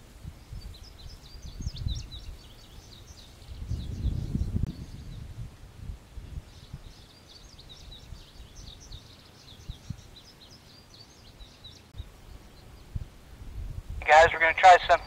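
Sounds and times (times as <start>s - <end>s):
wind rumble on microphone: 0.0s - 10.4s, 12.0s - 15.0s
songbird chirping: 0.3s - 5.4s, 6.0s - 13.1s.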